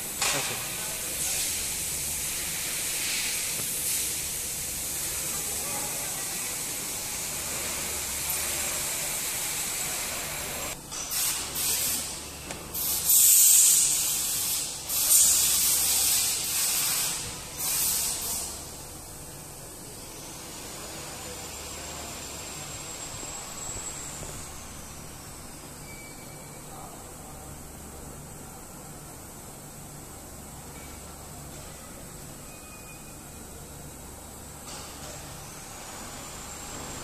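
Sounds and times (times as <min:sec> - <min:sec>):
low hum and hiss: 0:00.0 - 0:37.0.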